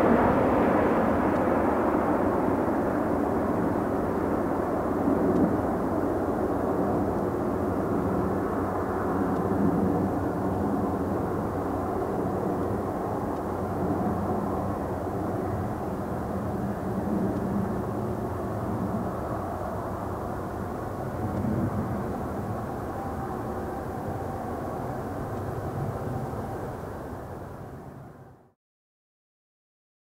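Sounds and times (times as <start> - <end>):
jet flying away: 0.0 - 28.5.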